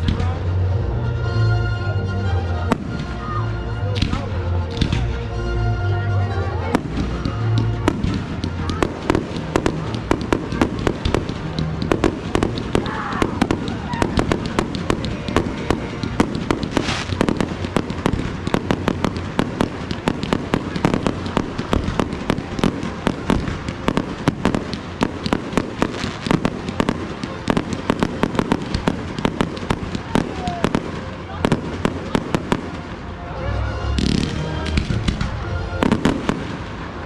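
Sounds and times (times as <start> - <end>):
fireworks bangs: 2.7 - 3.4, 4.0 - 5.2, 6.7 - 33.2, 34.0 - 37.0.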